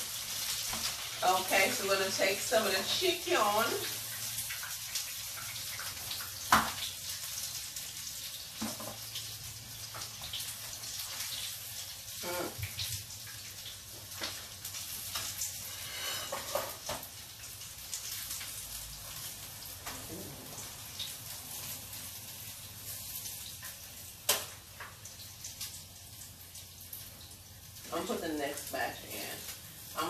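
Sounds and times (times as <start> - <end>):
chicken sizzling in oil: 0.0 - 30.0.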